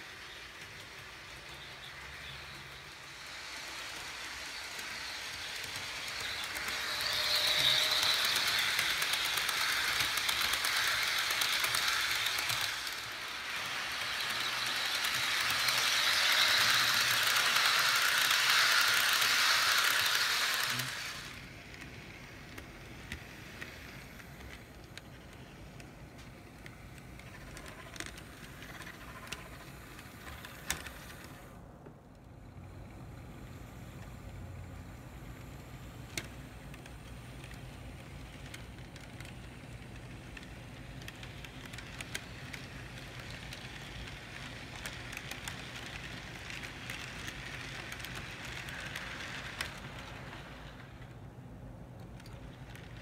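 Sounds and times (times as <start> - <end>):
model train rattling on track: 0.0 - 31.6, 33.0 - 53.0.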